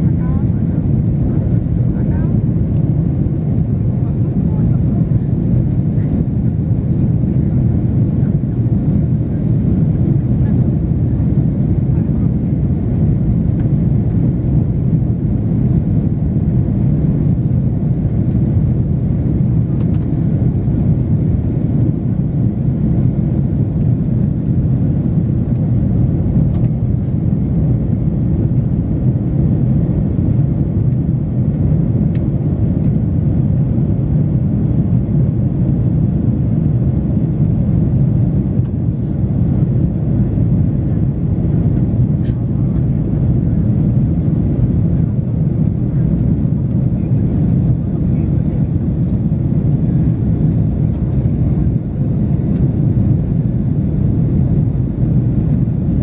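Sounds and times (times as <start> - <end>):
jet engine rumble in cabin: 0.0 - 56.0.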